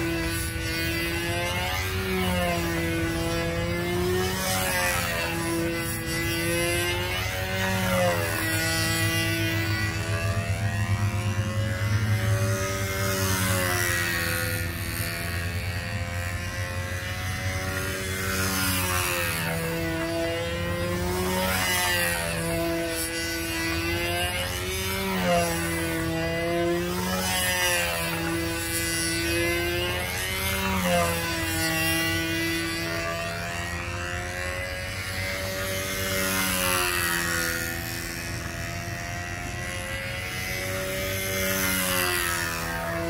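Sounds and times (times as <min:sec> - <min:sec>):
model plane engine buzzing whine: 0:00.0 - 0:43.0.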